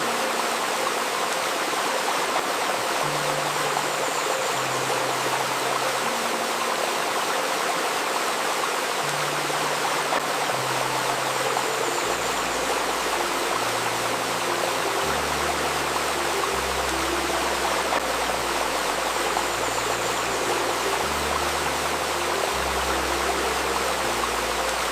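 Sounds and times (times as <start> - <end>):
low sustained synth notes: 0.0 - 24.9
river babbling over stones: 0.0 - 24.9.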